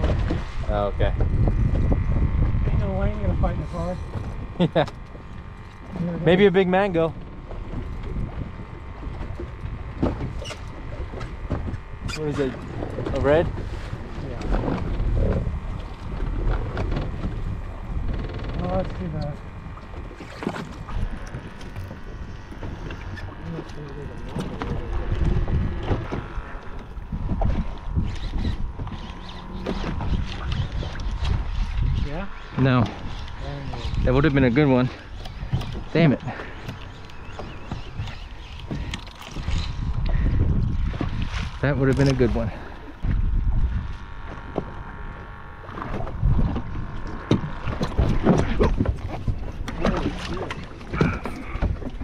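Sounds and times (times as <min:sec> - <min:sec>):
water slapping against boat hull: 0:00.0 - 0:03.5, 0:04.1 - 0:52.0
wind buffeting microphone: 0:00.0 - 0:52.0.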